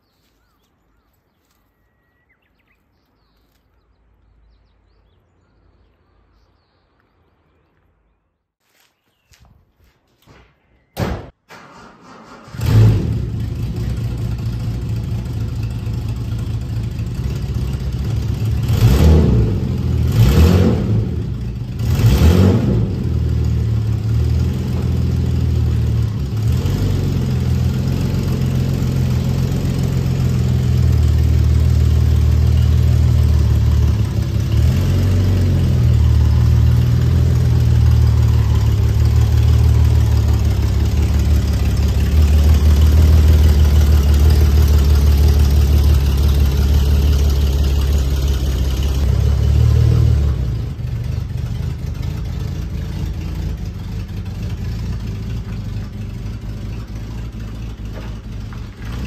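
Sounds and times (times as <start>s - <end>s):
car engine starting and idling: 11.4s - 59.0s.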